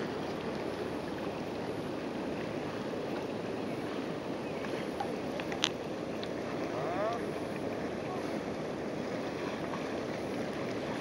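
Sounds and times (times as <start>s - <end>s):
river water rushing: 0.0s - 11.0s
wind: 0.0s - 11.0s.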